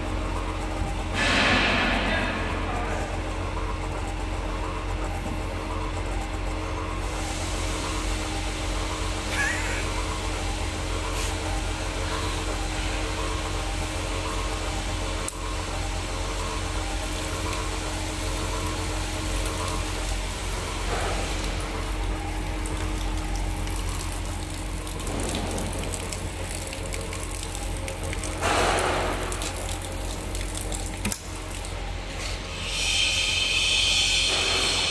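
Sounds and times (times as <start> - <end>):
electric pump motor humming: 0.0 - 34.9.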